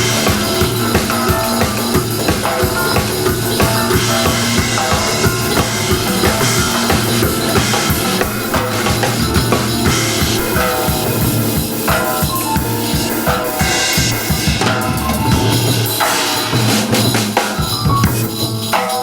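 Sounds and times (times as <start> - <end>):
bass line: 0.0 - 15.9
band music: 0.0 - 19.0
busy drum kit: 0.0 - 19.0.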